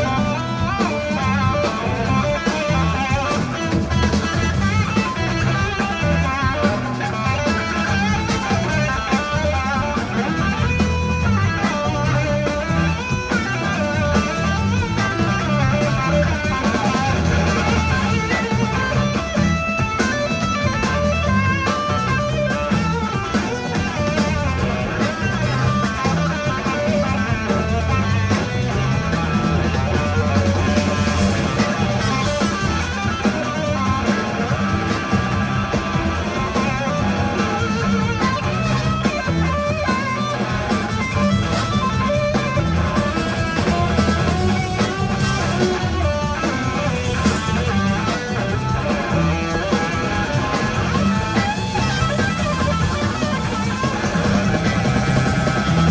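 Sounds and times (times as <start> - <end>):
drums: 0.0 - 55.9
electric guitars: 0.0 - 55.9.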